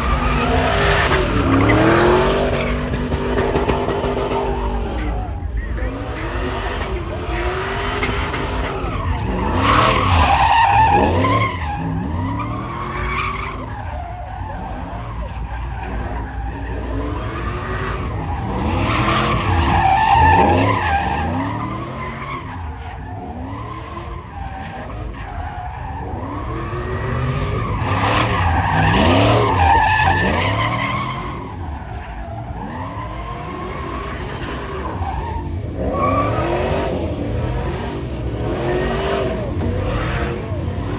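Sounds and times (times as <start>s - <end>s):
truck engine revving: 0.0s - 31.8s, 32.5s - 40.9s
tires skidding and squealing: 0.0s - 40.9s.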